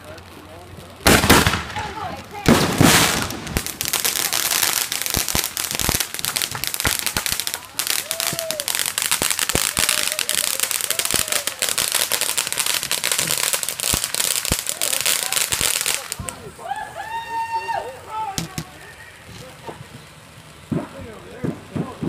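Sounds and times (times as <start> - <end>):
firework crackling and hissing: 0.0 - 22.0
firework sharp pops: 0.9 - 16.5, 18.3 - 22.0.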